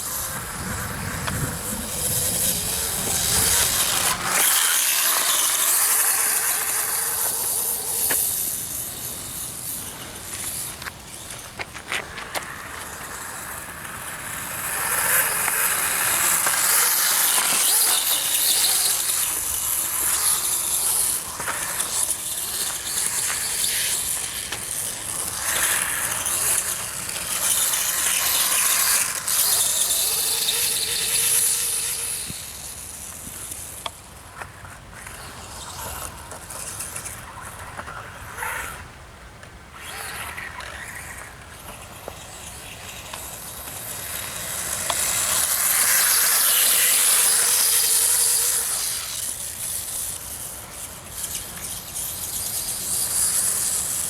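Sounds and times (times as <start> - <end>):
electric motor whining: 0.0 - 33.9, 39.8 - 54.0.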